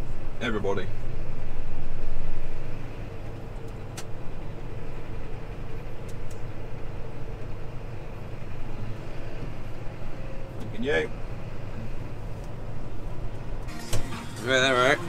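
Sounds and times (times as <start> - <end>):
tractor engine drone: 0.0 - 15.0.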